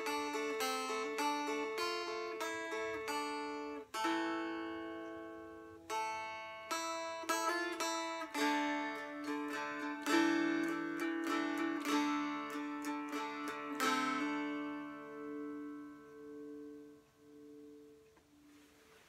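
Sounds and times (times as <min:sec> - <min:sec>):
dulcimer strumming: 0:00.0 - 0:18.2.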